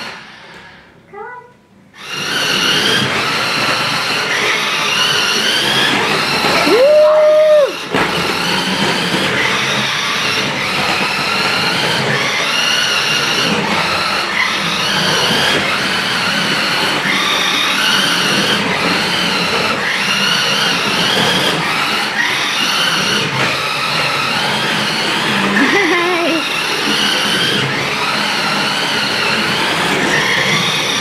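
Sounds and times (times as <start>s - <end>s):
toy car electric motor whining: 0.0s - 0.8s, 2.0s - 31.0s.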